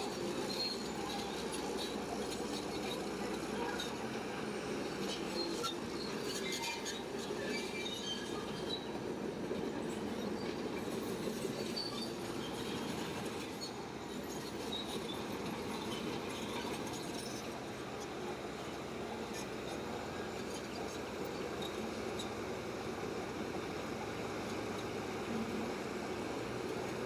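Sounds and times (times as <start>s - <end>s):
bulldozer engine drone: 0.0s - 27.0s
steel tracks squeaking and clinking: 0.0s - 27.0s.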